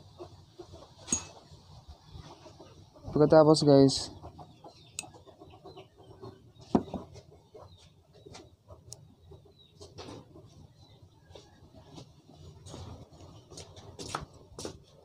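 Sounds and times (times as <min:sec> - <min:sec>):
faint clucking: 0:00.0 - 0:12.9.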